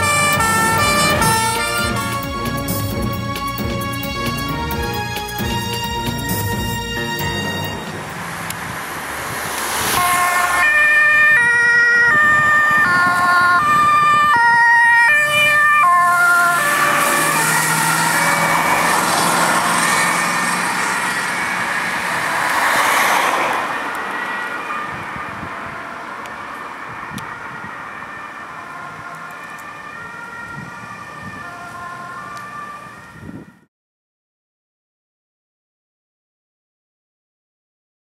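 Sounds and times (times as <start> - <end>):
ambulance siren: 0.0 - 33.7
passing traffic: 0.0 - 33.7.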